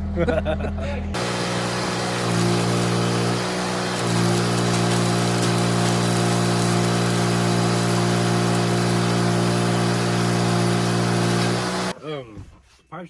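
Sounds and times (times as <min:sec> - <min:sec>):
engine idling: 0:00.8 - 0:11.9.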